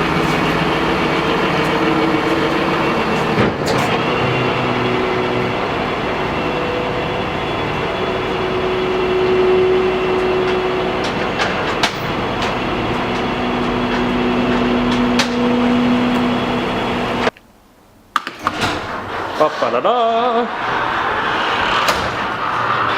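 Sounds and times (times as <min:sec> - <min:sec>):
road noise: 0:00.0 - 0:17.4, 0:18.8 - 0:22.9
truck engine drone: 0:00.0 - 0:17.4, 0:18.8 - 0:22.9.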